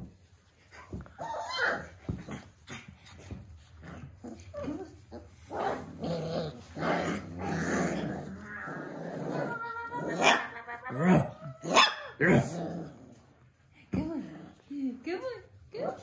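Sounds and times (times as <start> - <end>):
puppies growling: 0.7 - 14.8.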